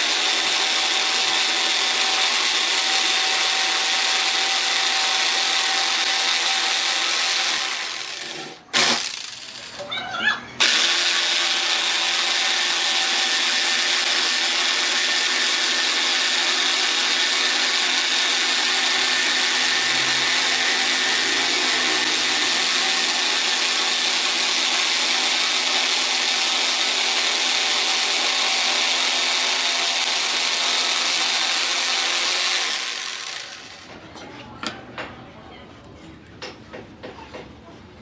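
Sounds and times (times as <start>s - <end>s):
electric power tool whining: 0.0s - 9.9s, 10.6s - 33.9s.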